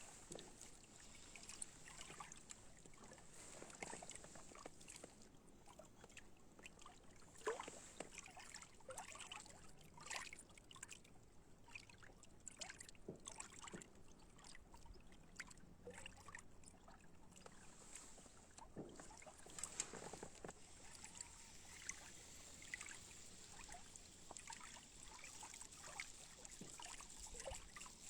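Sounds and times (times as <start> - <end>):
small splashes: 0.0 - 11.0, 11.7 - 28.0
water lapping and trickling: 0.0 - 28.0.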